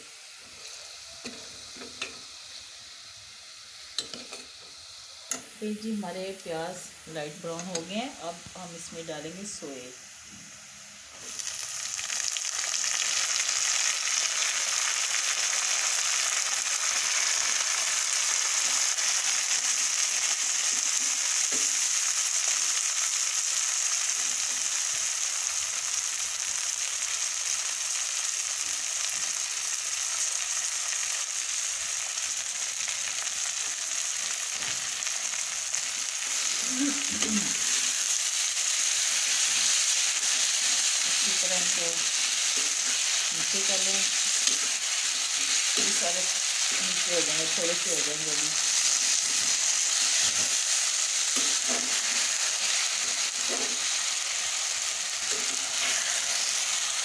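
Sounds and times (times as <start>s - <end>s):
herbs sizzling in hot oil: 0.0s - 57.0s.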